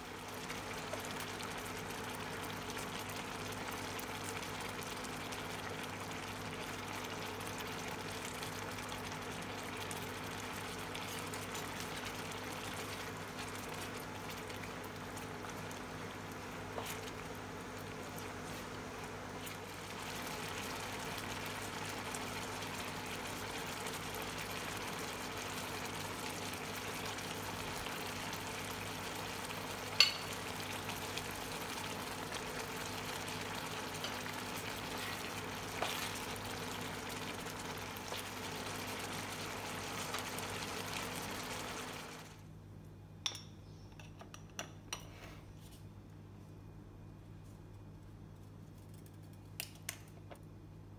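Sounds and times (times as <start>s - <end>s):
vegetables sizzling in a frying pan: 0.0s - 42.3s.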